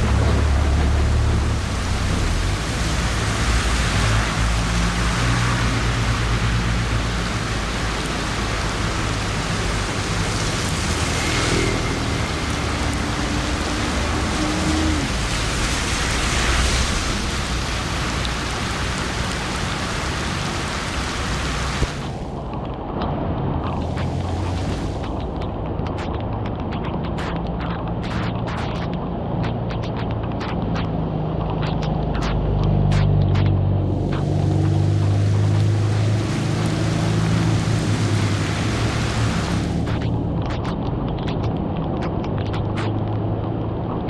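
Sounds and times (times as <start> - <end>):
heavy rain falling: 0.0 - 23.0, 23.7 - 44.0
water running on street: 0.0 - 23.0, 23.6 - 44.0.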